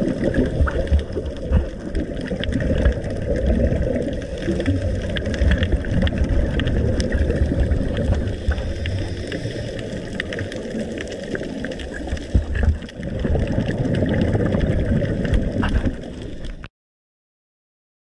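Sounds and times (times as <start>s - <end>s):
underwater bubbling rumble: 0.0s - 16.7s.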